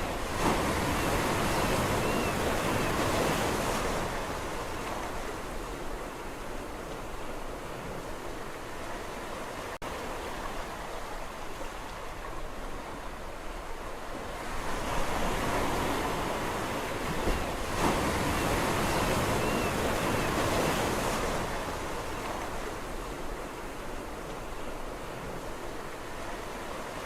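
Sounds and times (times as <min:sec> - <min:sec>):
sea waves washing on shore: 0:00.0 - 0:27.0.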